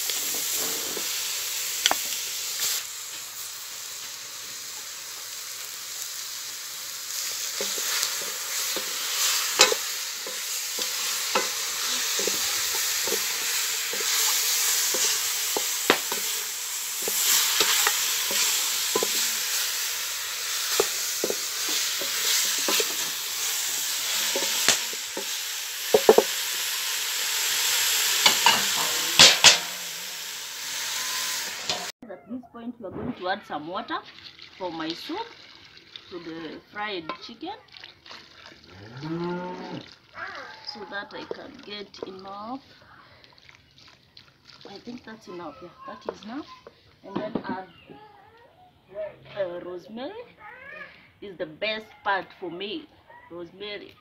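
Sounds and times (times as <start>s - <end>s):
chicken sizzling in a pot: 0.0s - 32.0s, 33.4s - 47.6s.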